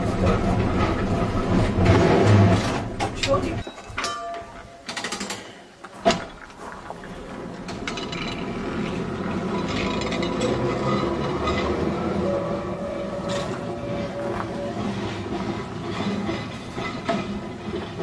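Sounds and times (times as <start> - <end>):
tram running gear and motors: 0.0 - 18.0.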